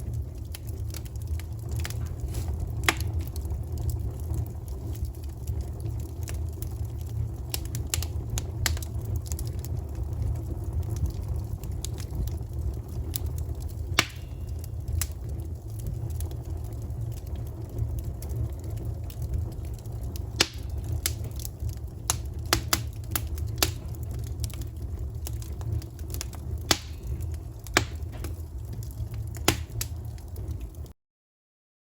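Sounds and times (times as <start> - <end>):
campfire crackling and popping: 0.0 - 30.9
low steady rumble: 0.0 - 30.9.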